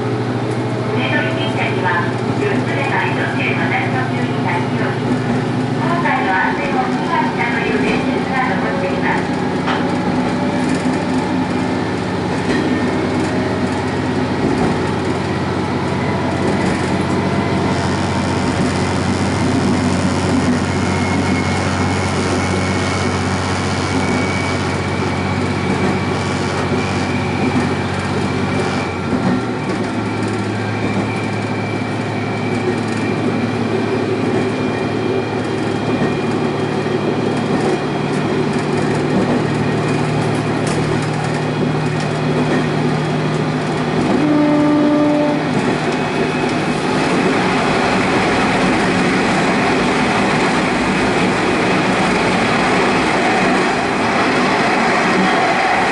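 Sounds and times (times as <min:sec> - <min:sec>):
diesel engine drone: 0:00.0 - 0:55.9
wheel and rail noise: 0:00.0 - 0:55.9.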